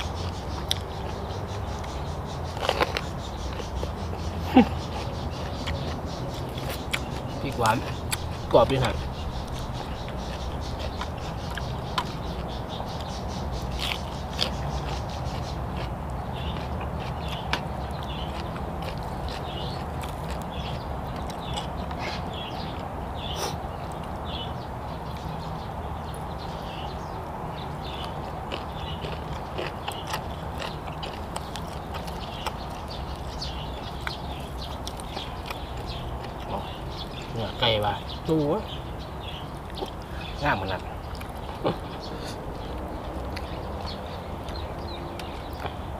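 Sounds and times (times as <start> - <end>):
person chewing crunchy food: 0.0 - 24.2, 27.3 - 37.3, 39.4 - 45.9.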